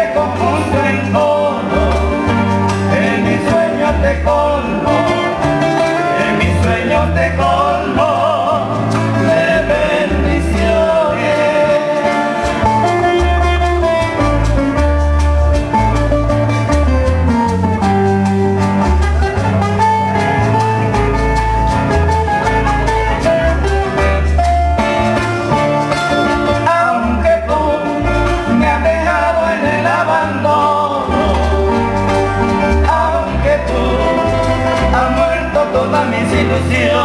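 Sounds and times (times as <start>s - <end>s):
acoustic guitars playing: 0.0s - 37.0s
maracas shaken in rhythm: 0.0s - 37.0s
pulsing bass line: 0.0s - 37.0s.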